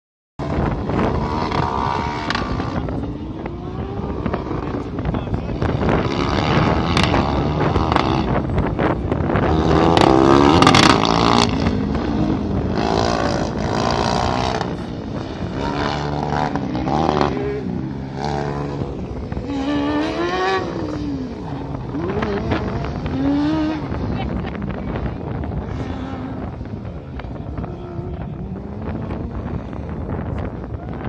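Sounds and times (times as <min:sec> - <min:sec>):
race car engine revving: 0:00.4 - 0:31.0.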